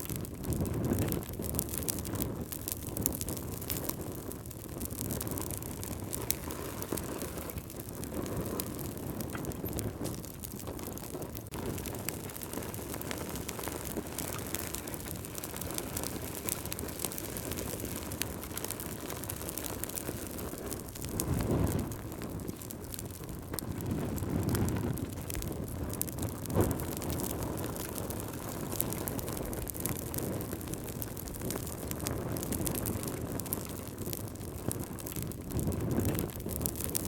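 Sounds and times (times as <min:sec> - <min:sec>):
low rumble of flames: 0:00.0 - 0:37.0
wood fire crackling: 0:00.0 - 0:37.0.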